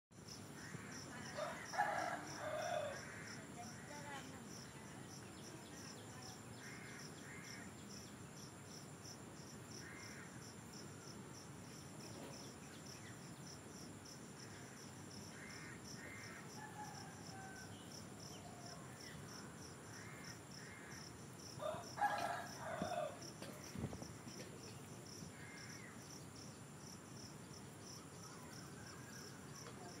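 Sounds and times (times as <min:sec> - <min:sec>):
insect chirping steadily: 0:00.1 - 0:30.0.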